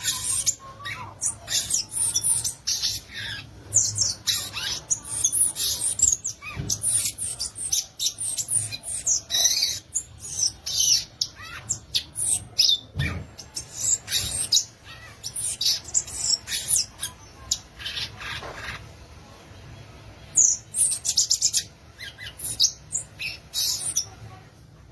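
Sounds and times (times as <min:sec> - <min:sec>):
bird chirping and twittering: 0:00.0 - 0:24.9.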